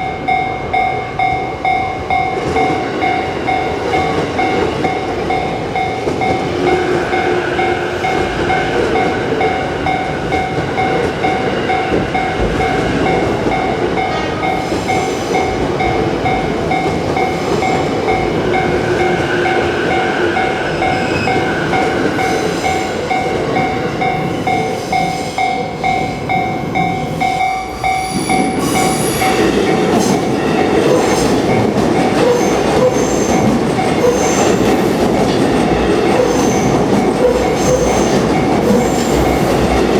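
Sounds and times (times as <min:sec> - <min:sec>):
train rumble and wheel clatter: 0:00.0 - 0:39.9.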